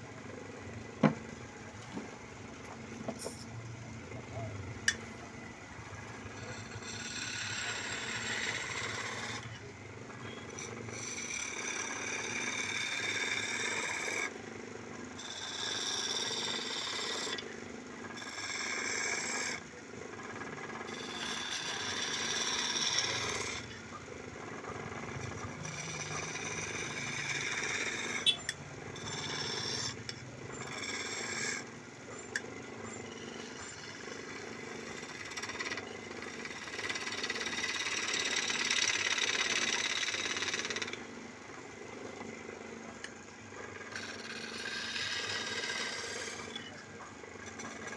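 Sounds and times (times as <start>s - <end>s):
tool scraping spinning wood: 0.0s - 3.5s, 4.1s - 47.9s
wood lathe motor hum: 0.0s - 47.9s.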